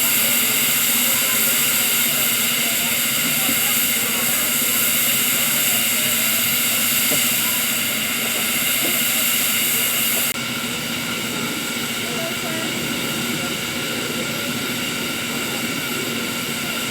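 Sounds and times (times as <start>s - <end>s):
locomotive steam hiss: 0.0s - 16.9s.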